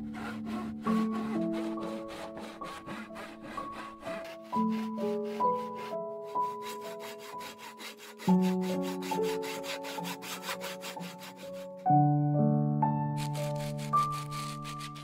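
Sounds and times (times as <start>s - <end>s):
hand tool rasping wood: 0.0s - 11.8s, 13.2s - 15.0s
soft background music: 0.0s - 15.0s.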